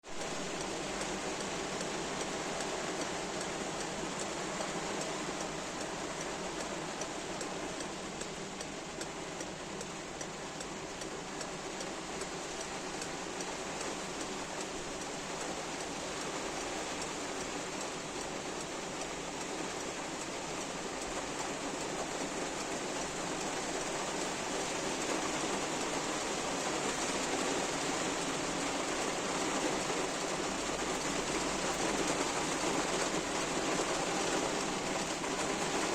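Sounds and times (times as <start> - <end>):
heavy rain on car roof: 0.0 - 35.9.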